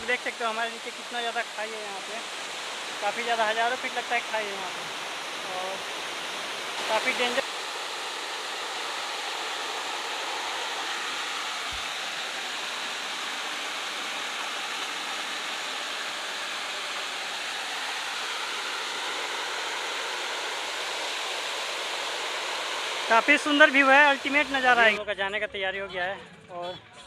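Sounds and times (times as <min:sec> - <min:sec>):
small waterfall rushing: 0:00.0 - 0:25.0.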